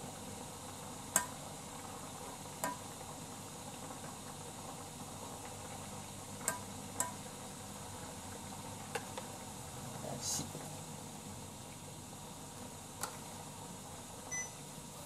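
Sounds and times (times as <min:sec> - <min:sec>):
water bubbling in pan: 0:00.0 - 0:15.0.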